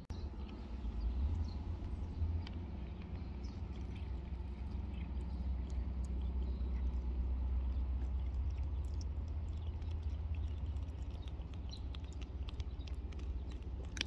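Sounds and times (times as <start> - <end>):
low rumble: 0.0 - 14.0
cat licking and smacking: 1.8 - 14.0.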